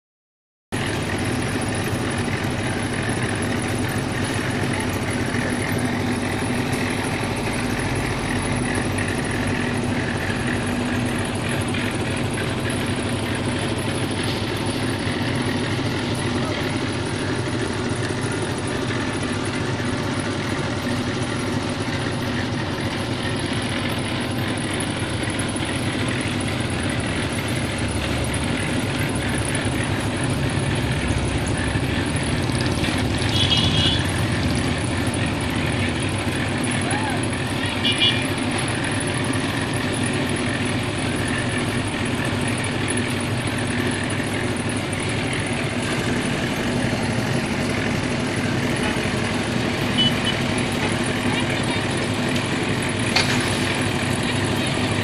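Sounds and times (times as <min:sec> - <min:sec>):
concrete mixer engine running: 0:00.8 - 0:55.0.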